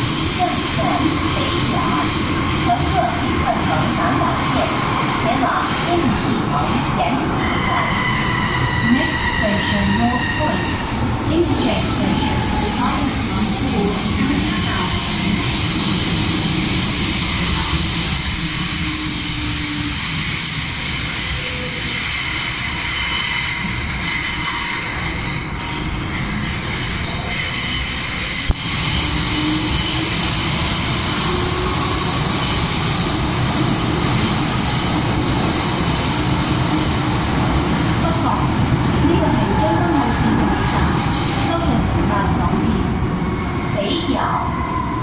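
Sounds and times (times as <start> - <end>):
subway car rumble: 0.0 - 45.0.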